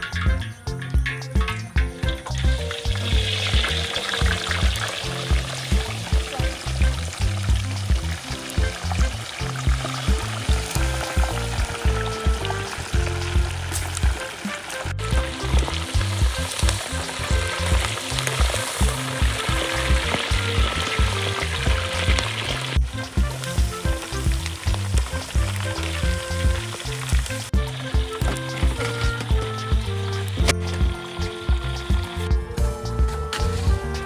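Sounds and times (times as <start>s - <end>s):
background music with beat: 0.0s - 34.0s
food sizzling in a pan: 2.2s - 34.0s.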